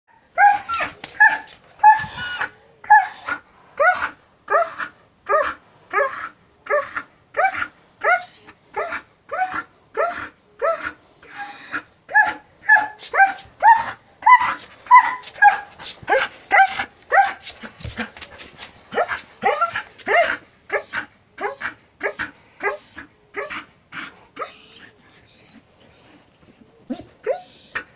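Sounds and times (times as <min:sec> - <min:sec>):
dog crying out: 0:00.3 - 0:17.4, 0:18.9 - 0:26.2.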